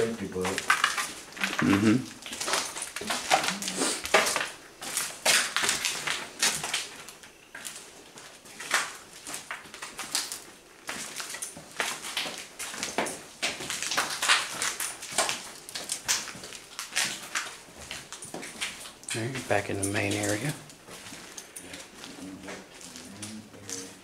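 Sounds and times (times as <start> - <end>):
footsteps on debris: 0.0 - 24.0.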